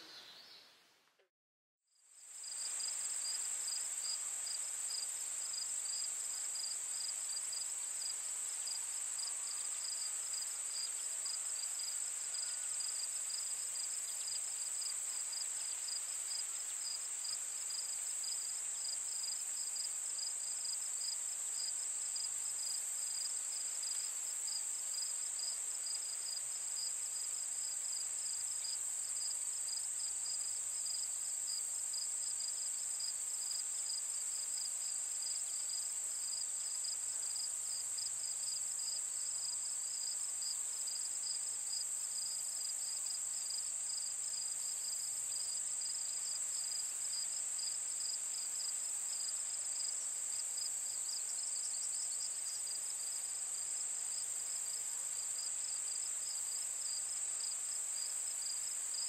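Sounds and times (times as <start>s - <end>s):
rapidly pulsing insect trill: 2.2s - 59.0s.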